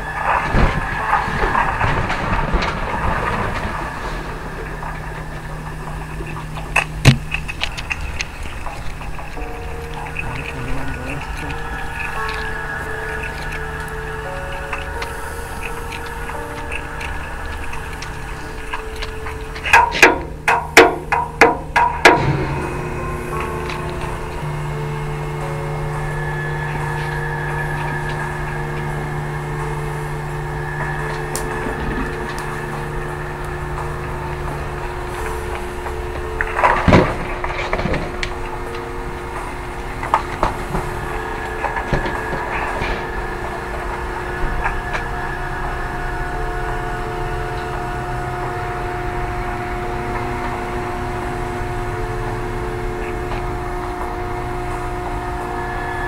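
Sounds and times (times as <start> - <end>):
mechanical hum with whine: 0.0 - 56.0
vehicle engine idling: 0.0 - 56.0.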